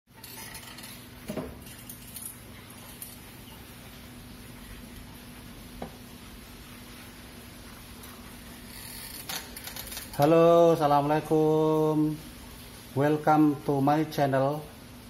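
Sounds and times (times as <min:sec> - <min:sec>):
low electrical hum: 0:00.1 - 0:15.0.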